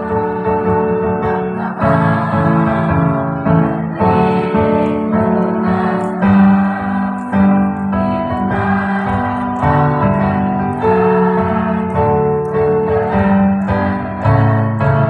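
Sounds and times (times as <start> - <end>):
choir singing: 0.0 - 15.0
electric piano chords: 0.0 - 15.0.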